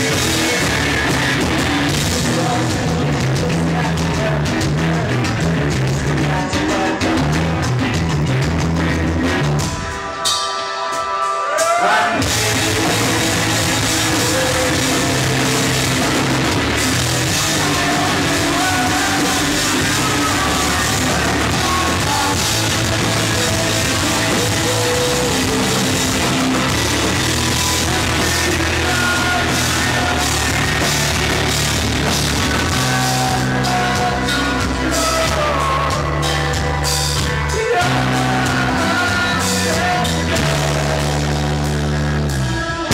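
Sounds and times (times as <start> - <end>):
person singing: 0.0 - 9.6, 10.9 - 42.9
drum kit: 0.0 - 42.9
live rock band playing: 0.0 - 42.9.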